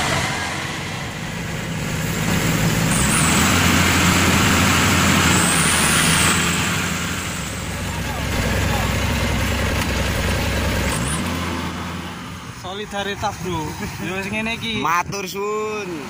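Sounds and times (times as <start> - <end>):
combine harvester engine: 0.0 - 14.8.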